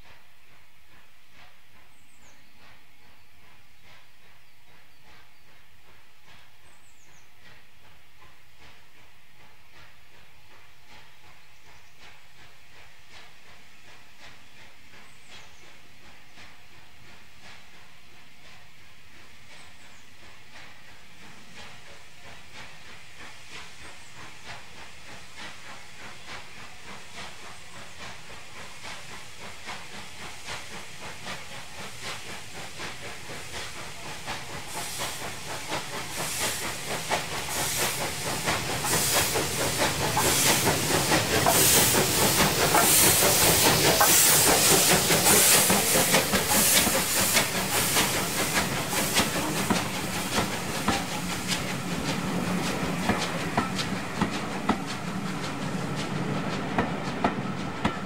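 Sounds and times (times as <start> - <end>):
steam hiss: 0.0 - 58.0
steam locomotive exhaust beats: 0.0 - 58.0
train coaches rolling past: 7.9 - 58.0.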